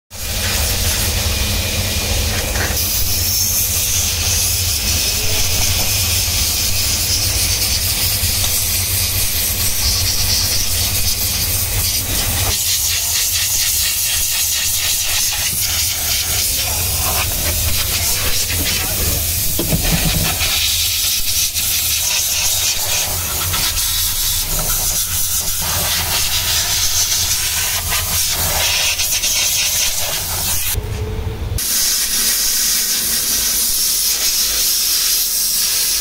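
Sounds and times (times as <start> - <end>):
steam cleaner hissing: 0.1 - 30.8, 31.6 - 36.0.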